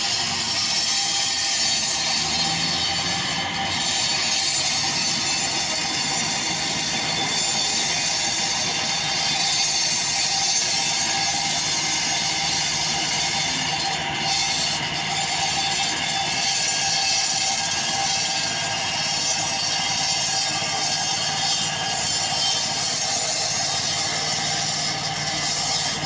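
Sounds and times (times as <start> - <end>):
saw blade grinding concrete: 0.0 - 26.0
saw engine running: 0.0 - 26.0.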